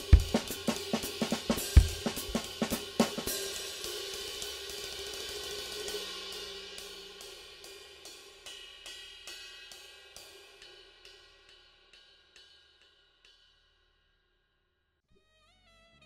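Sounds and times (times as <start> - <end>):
ride cymbal struck with drumstick: 0.0 - 13.7.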